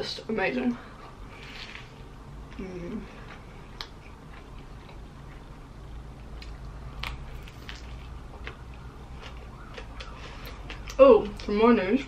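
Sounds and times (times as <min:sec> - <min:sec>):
low steady hum: 0:00.0 - 0:12.0
person chewing: 0:01.4 - 0:11.4.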